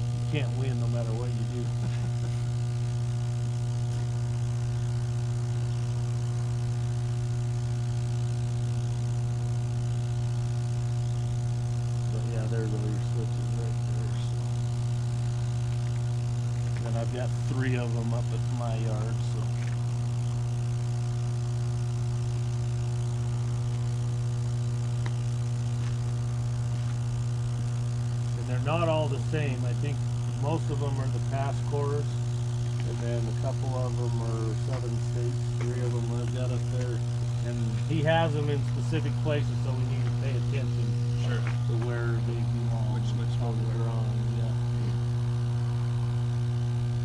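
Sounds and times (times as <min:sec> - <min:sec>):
electrical hum of substation: 0:00.0 - 0:47.0.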